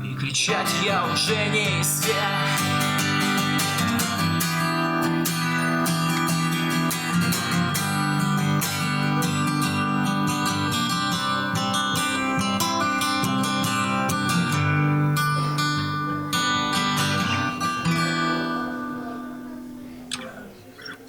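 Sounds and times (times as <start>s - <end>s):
acoustic guitar strumming chords: 0.0s - 20.4s.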